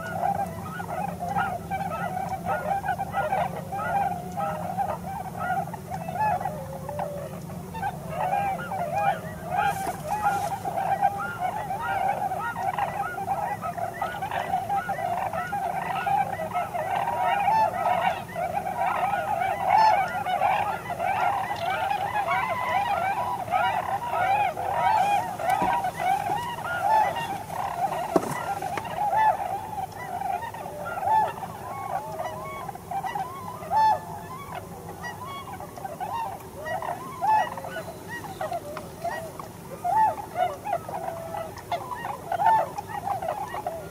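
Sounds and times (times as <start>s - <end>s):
flock of geese honking: 0.0s - 43.9s.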